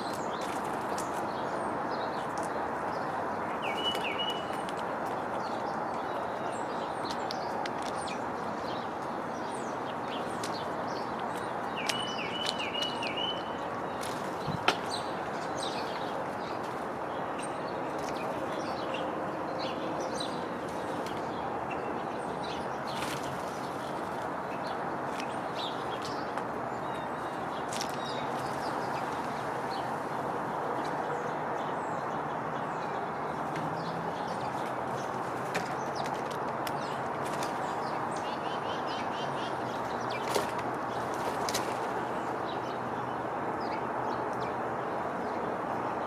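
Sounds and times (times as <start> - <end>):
outdoor background noise: 0.0 - 46.0
small songbirds chirping: 0.0 - 46.0.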